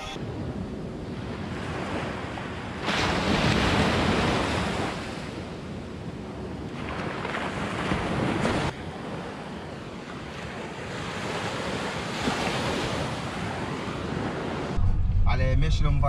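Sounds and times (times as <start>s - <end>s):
small waves washing on sand: 0.3s - 14.8s.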